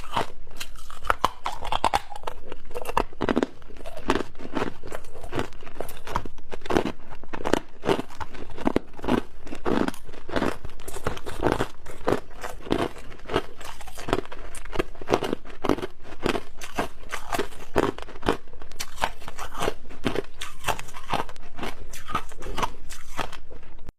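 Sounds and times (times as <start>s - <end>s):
ice being chewed: 0.0s - 23.9s.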